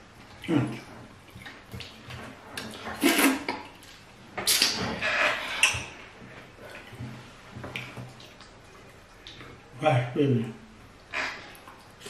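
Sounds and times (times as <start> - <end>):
mouth smacking and slurping: 0.0 - 9.7.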